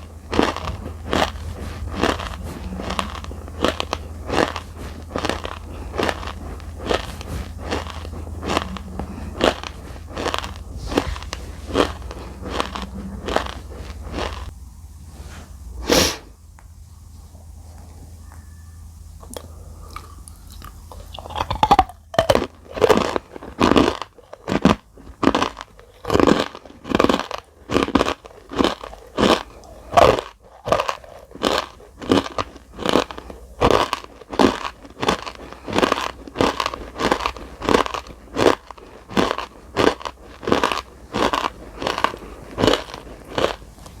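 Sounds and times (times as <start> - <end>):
crunchy chewing: 0.0 - 44.0.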